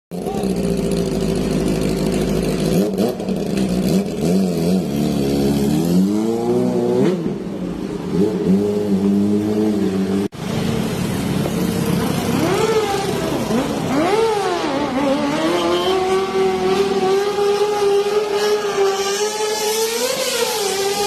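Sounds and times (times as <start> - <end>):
motorcycle engine revving: 0.1 - 21.0.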